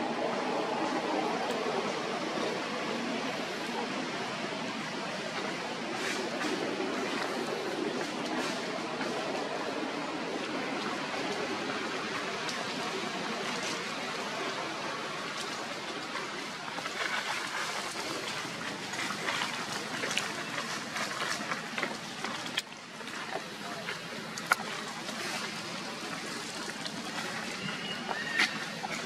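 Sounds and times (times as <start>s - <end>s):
outdoor rushing noise: 0.0s - 27.6s.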